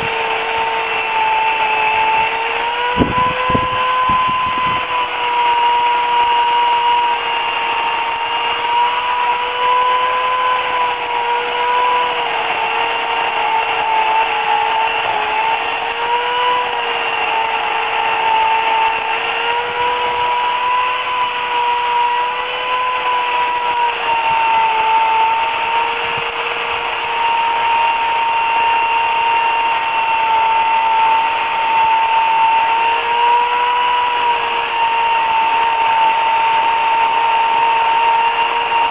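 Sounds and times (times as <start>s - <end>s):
electric chainsaw whining: 0.0s - 38.9s.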